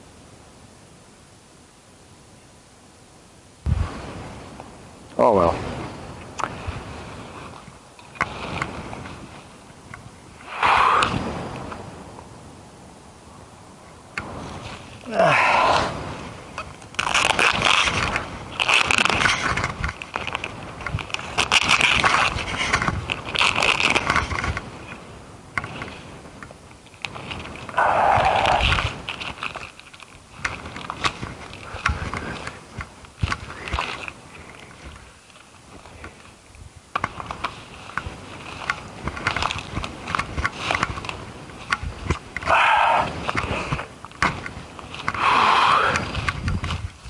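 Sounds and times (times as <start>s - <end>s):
rustling and scraping: 5.4s - 12.2s, 14.2s - 47.0s.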